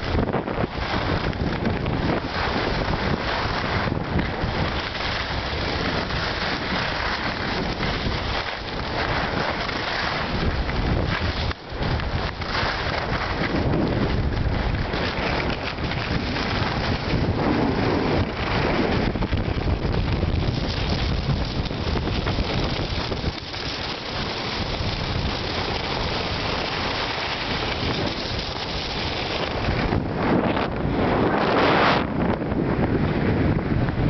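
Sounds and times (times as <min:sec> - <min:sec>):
skis scraping over packed snow: 0:00.0 - 0:34.0
wind rushing over microphone: 0:00.0 - 0:34.0.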